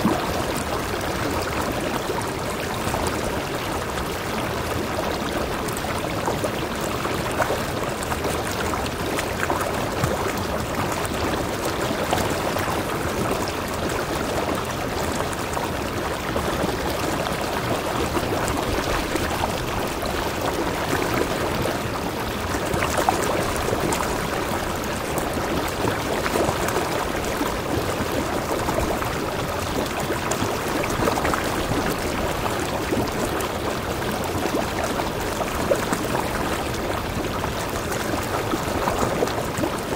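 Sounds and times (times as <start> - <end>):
stream rushing and splashing: 0.0 - 39.9.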